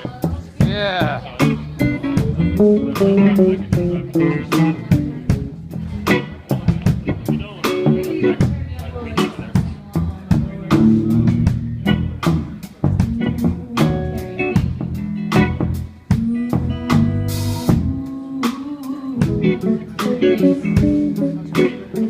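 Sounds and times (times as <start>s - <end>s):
bass: 0.0s - 22.0s
drum kit beat: 0.0s - 22.0s
guitar: 0.0s - 22.0s.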